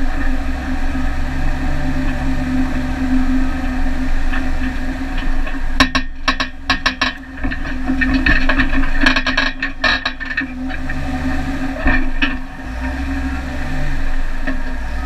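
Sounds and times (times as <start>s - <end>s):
rattling and knocking over bumps: 0.0s - 15.0s
vehicle engine drone: 0.0s - 15.0s.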